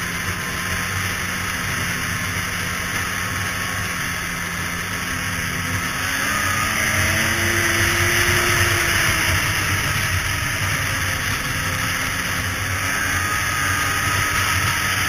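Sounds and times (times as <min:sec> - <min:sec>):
snowmobile engine running: 0:00.0 - 0:15.0
snowmobile track noise: 0:00.0 - 0:15.0.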